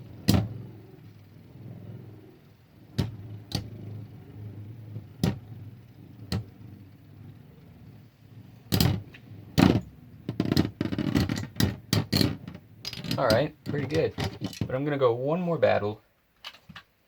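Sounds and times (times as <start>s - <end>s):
spinning tops whirring: 0.0s - 14.6s.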